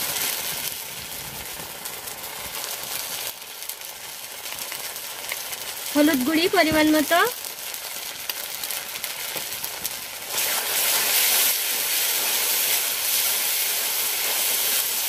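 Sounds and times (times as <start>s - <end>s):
spice paste sizzling in oil: 0.0s - 15.0s.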